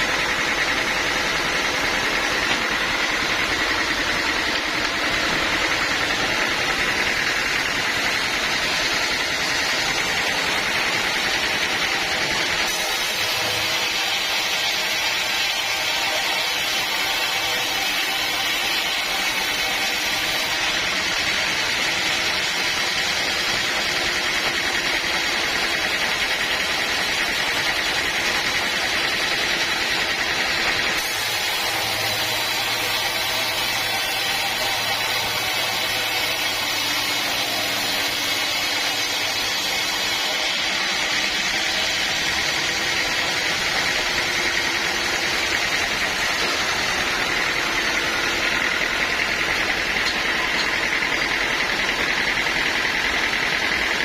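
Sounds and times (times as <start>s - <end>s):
sawmill machinery rushing noise: 0.0s - 54.0s.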